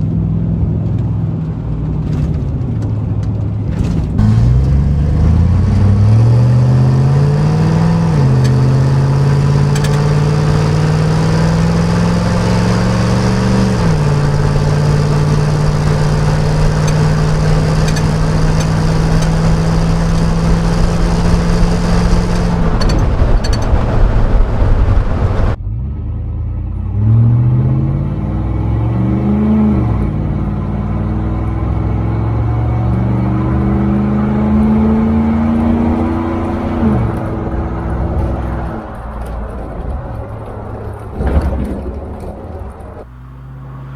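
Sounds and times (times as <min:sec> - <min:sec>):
truck exhaust accelerating: 0:00.0 - 0:43.9.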